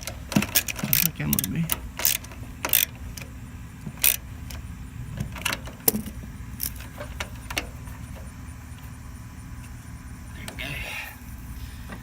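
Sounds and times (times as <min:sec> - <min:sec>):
low hum: 0:00.9 - 0:12.0.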